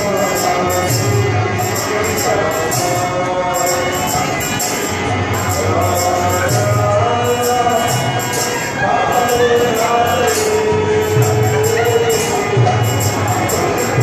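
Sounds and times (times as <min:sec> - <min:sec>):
hand cymbals ringing: 0:00.0 - 0:14.0
person chanting: 0:00.0 - 0:14.0.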